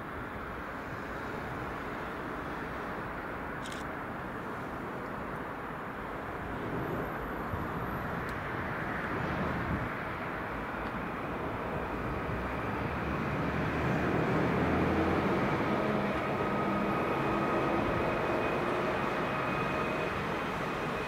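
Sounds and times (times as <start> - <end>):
train passing on track: 0.0 - 21.0.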